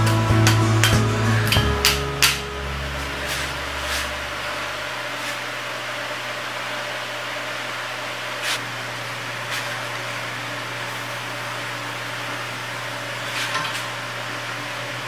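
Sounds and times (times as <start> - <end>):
shop equipment whir and hum: 0.0 - 15.0.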